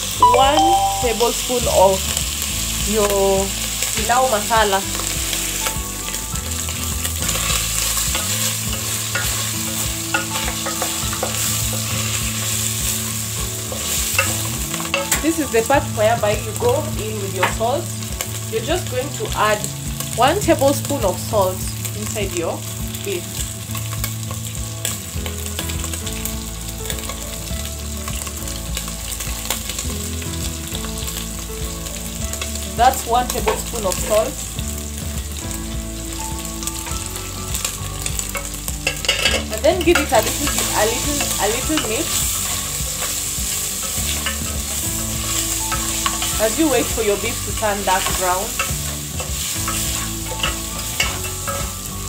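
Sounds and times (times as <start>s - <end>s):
meat sizzling in a pot: 0.0s - 52.0s.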